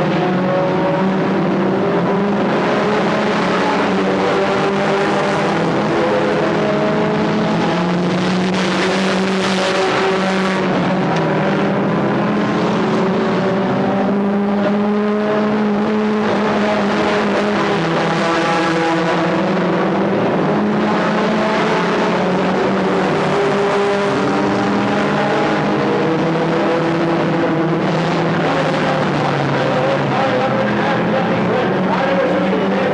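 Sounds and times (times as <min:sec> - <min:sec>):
race car engines: 0:00.0 - 0:32.9.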